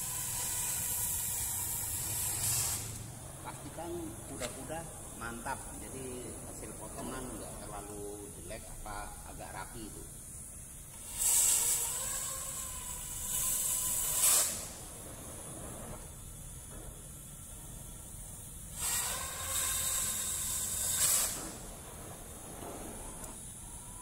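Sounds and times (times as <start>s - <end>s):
cutting torch hissing: 0.0s - 24.0s.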